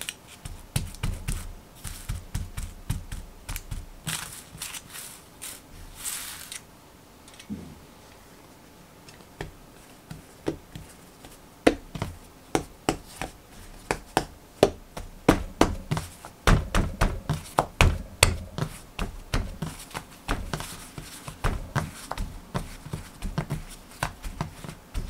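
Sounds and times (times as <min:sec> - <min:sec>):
hands slapping bread dough: 0:00.0 - 0:04.6, 0:09.4 - 0:25.0.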